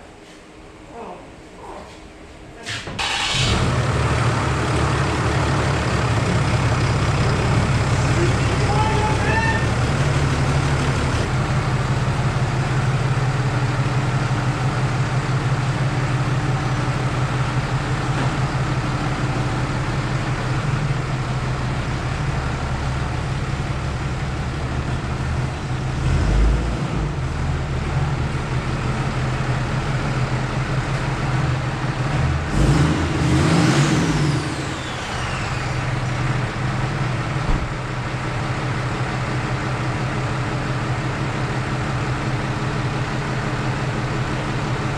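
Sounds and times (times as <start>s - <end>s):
diesel engine running: 2.8s - 44.9s.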